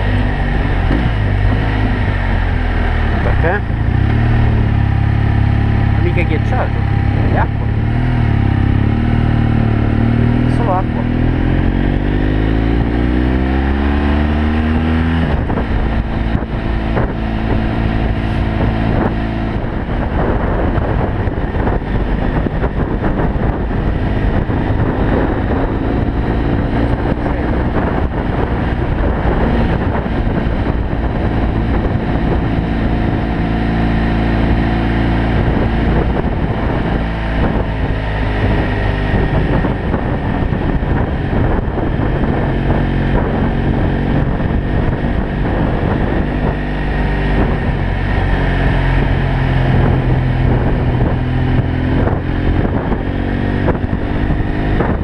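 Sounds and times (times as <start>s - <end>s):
motorcycle engine under load: 0.0s - 55.0s
wind noise: 0.0s - 55.0s.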